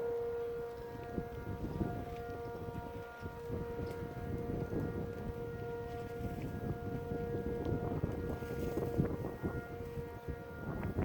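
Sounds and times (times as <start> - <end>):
low gusty wind noise: 0.0 - 11.0
warning siren steady tone: 0.0 - 11.0.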